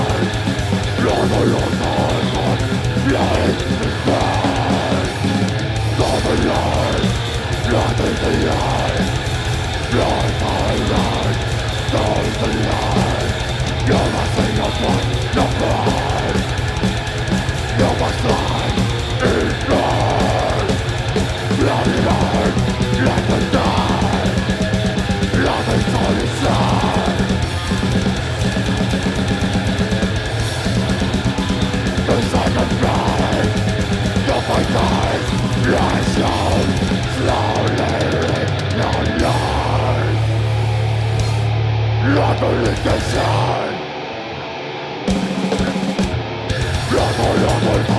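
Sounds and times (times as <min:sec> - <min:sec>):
fast dense drumming: 0:00.0 - 0:43.8, 0:45.1 - 0:47.9
growled vocals: 0:00.0 - 0:44.0, 0:46.5 - 0:47.9
distorted guitars and bass: 0:00.0 - 0:47.9.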